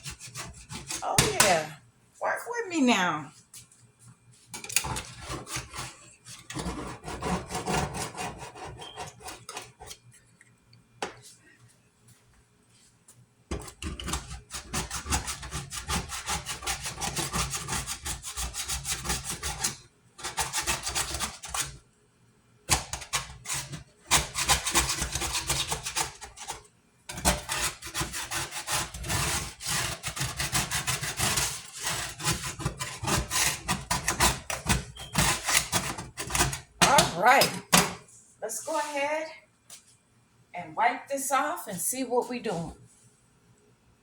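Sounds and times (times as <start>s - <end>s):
scrubbing on a stovetop: 0.0s - 10.3s, 12.7s - 21.8s, 23.0s - 37.4s, 38.4s - 39.9s.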